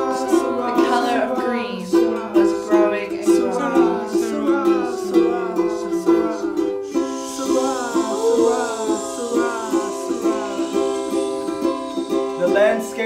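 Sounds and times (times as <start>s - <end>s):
ukulele strumming chords: 0.0s - 13.0s.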